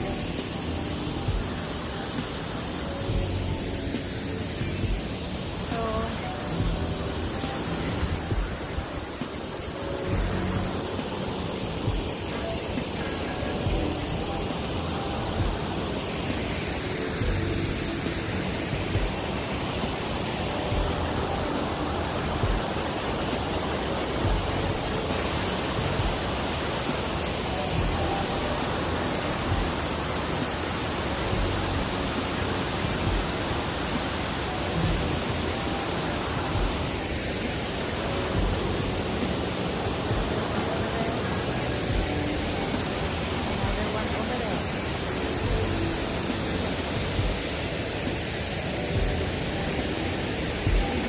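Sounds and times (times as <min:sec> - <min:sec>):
water rushing: 0:00.0 - 0:51.0.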